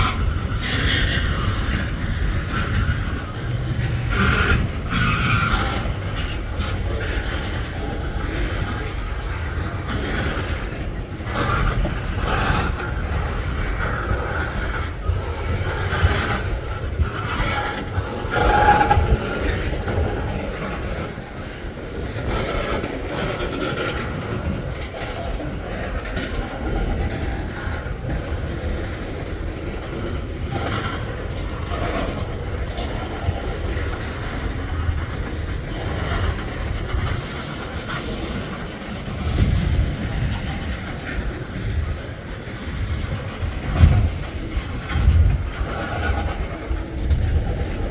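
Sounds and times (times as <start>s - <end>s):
train low rumble: 0.0s - 47.9s
wheels clattering over rail joints: 0.0s - 47.9s
wheels squealing: 0.0s - 47.9s.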